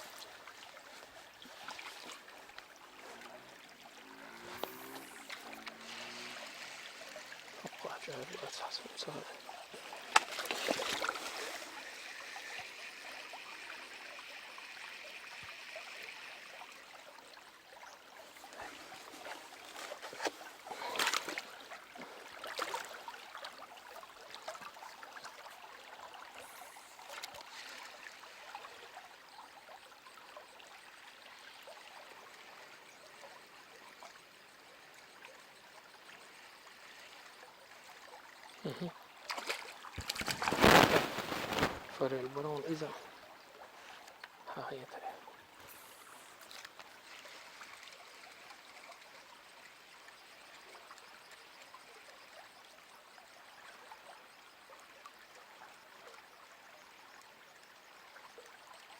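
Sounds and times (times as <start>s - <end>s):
stream water running: 0.0s - 58.9s.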